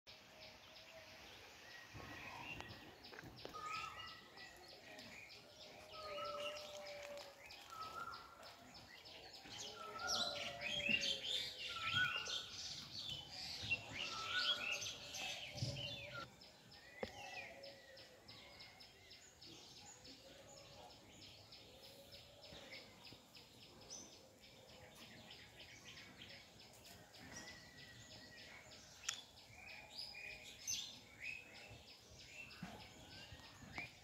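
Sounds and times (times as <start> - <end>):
birds chirping: 0.1 - 34.0.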